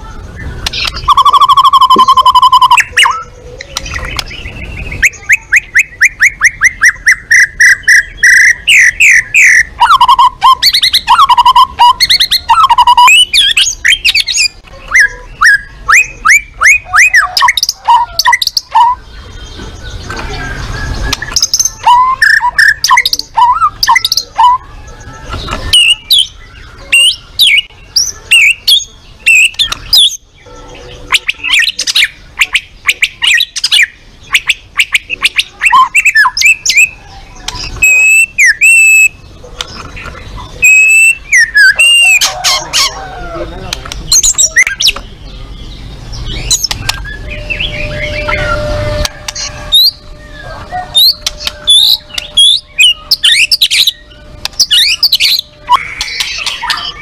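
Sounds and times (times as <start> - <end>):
bird singing whistles and trills: 0.0 - 39.8, 40.4 - 42.9, 44.1 - 57.0.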